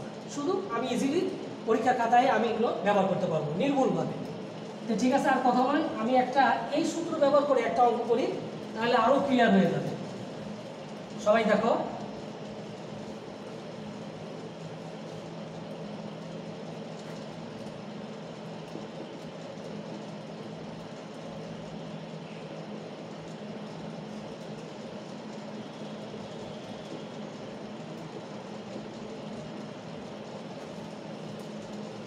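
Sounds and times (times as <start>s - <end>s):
mechanical hum: 0.0s - 32.0s.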